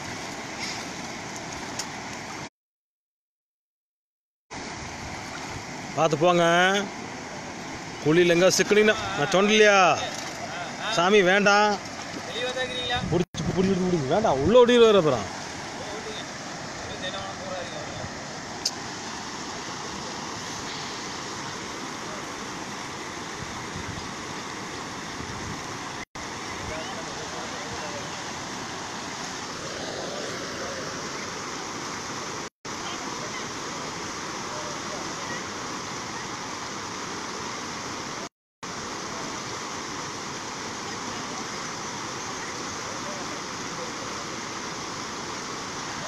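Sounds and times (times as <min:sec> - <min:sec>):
floodwater rushing in a river: 0:00.0 - 0:02.5, 0:04.6 - 0:46.0.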